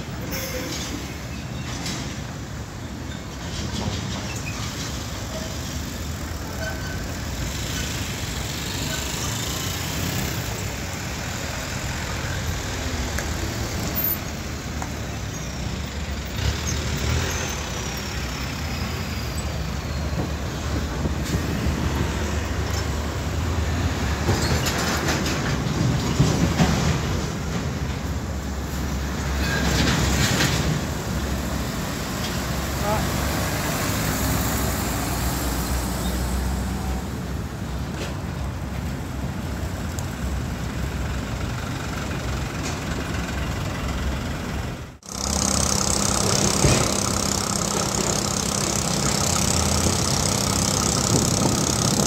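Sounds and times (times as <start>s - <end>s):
trailers rattling: 0.0s - 35.8s, 36.5s - 52.0s
diesel truck engines droning: 0.0s - 52.0s.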